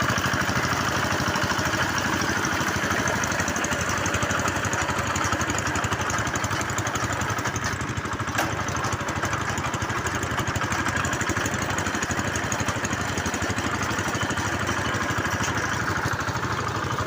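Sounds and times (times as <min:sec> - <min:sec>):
drilling machine engine pulsing: 0:00.0 - 0:17.0.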